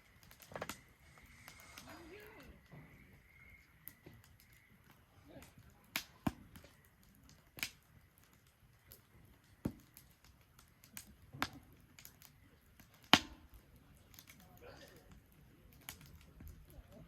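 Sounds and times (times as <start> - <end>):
sharp pops from fire: 0.0 - 17.0
wood fire crackling: 0.0 - 17.0.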